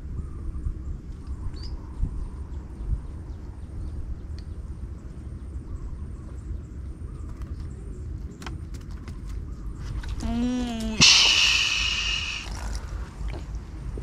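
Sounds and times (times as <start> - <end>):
faint bird chirps: 0.0 - 8.4, 9.2 - 13.0
wind buffeting microphone: 0.0 - 14.0.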